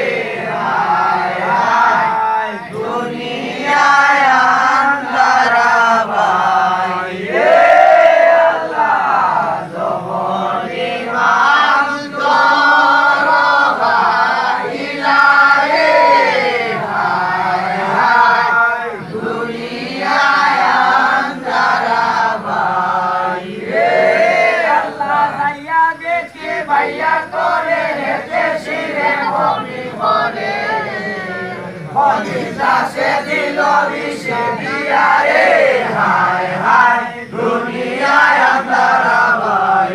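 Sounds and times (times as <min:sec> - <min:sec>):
crowd chanting in unison: 0:00.0 - 0:39.9.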